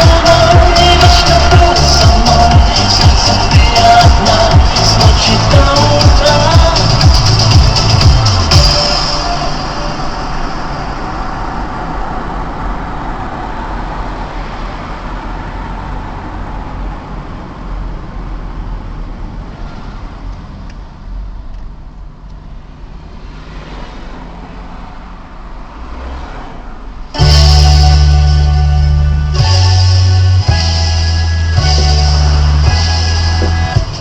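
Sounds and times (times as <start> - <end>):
car road and engine noise: 0.0 - 34.0.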